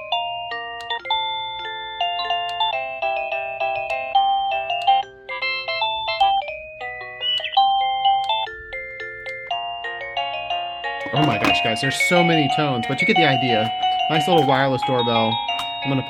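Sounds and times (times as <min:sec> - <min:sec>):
electronic doorbell chime melodies: 0:00.0 - 0:16.0.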